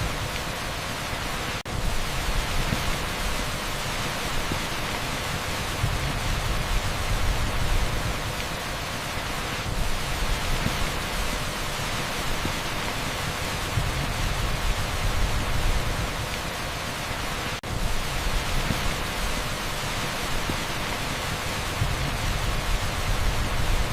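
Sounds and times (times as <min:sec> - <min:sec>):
torrential rain on asphalt: 0:00.0 - 0:23.9.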